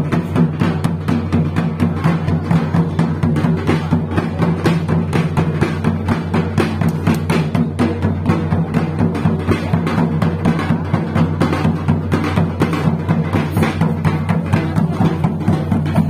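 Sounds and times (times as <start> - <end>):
drums beating fast: 0.0 - 16.0.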